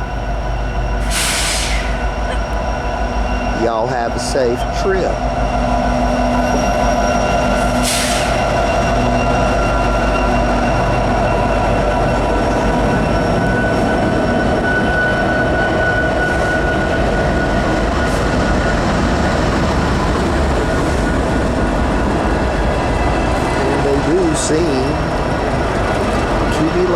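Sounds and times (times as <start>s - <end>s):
train cars rolling past: 0.0s - 26.9s
wheels squealing: 0.0s - 26.9s.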